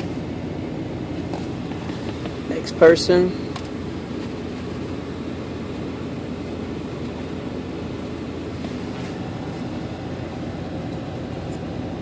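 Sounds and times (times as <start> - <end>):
vehicle cab rumble and hum: 0.0 - 12.0.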